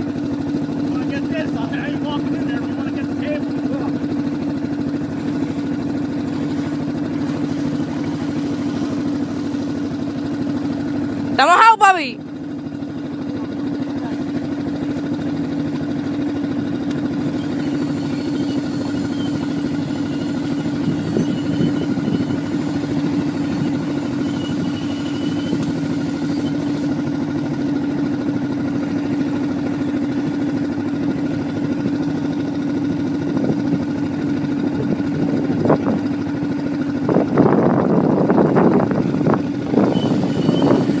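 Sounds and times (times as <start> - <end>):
atv engine running steadily: 0.0 - 41.0.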